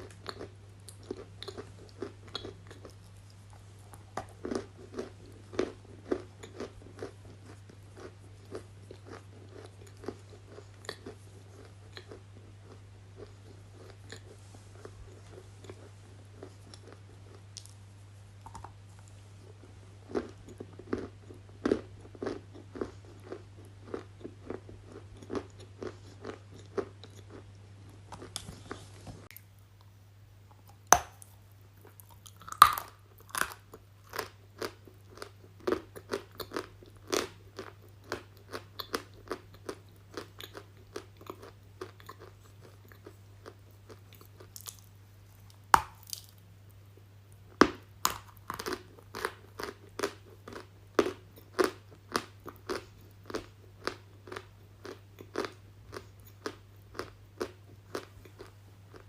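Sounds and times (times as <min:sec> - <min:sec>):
person crunching and chewing: 0:00.0 - 0:17.8, 0:18.4 - 0:18.8, 0:19.4 - 0:29.4, 0:30.5 - 0:46.4, 0:47.5 - 0:59.0
low electrical hum: 0:00.0 - 0:59.0.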